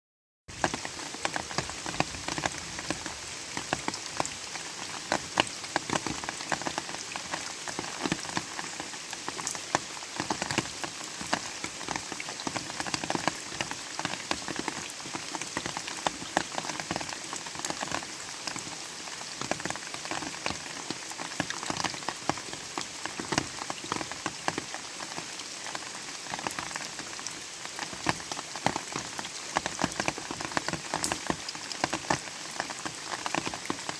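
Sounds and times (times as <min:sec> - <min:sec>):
light rain falling: 0:00.5 - 0:33.9.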